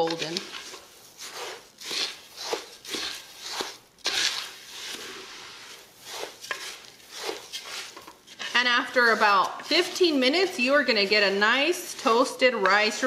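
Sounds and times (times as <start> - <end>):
spoon stirring rice in a pot: 0.0 - 13.0.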